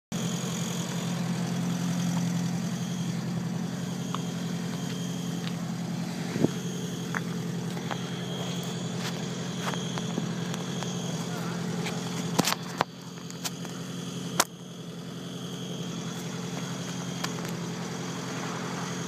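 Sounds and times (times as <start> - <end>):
car exhaust idling: 0.1 - 19.0.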